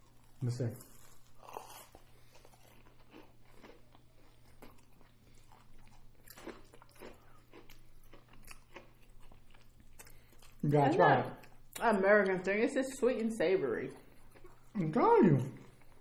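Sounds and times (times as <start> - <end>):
crunching and chewing: 0.0 - 11.8, 13.9 - 16.0.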